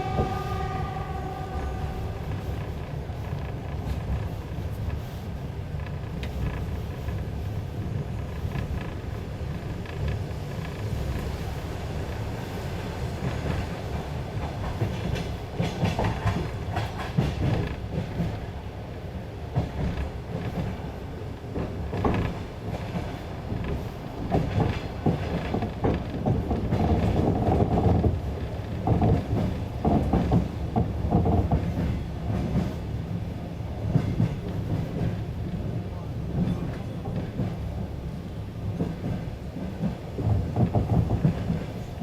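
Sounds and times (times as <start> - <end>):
train wheels clacking over joints: 0.0 - 18.5, 19.5 - 32.8, 38.7 - 42.0
train rumble inside carriage: 0.0 - 42.0.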